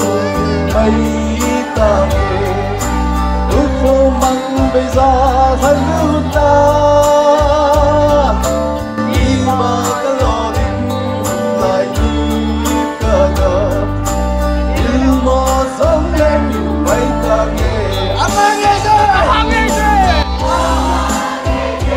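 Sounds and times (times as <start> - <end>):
man singing into microphone: 0.0 - 21.6
backing music with beat: 0.0 - 21.9.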